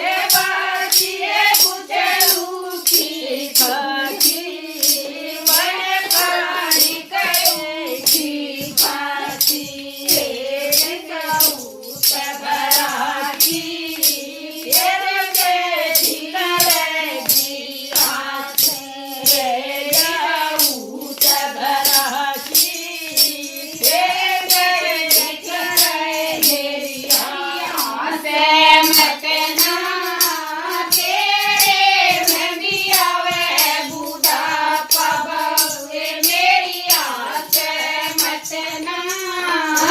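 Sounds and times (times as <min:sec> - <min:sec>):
person singing devotional song: 0:00.0 - 0:39.9
steady percussion beat: 0:00.0 - 0:39.9.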